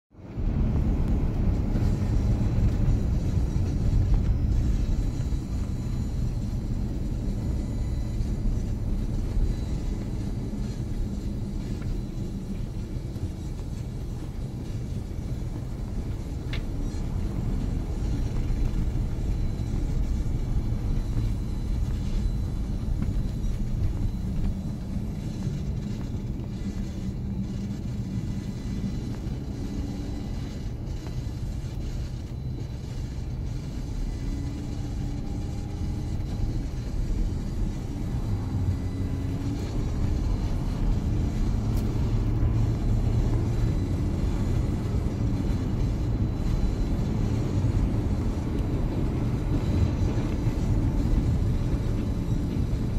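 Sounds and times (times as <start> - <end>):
car driving on snowy road: 0.2 - 52.9.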